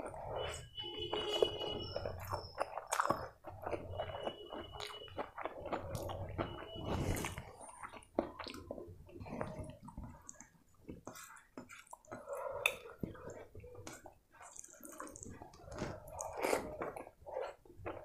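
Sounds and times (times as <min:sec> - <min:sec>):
wet chewing and mouth sounds: 0:00.0 - 0:18.0.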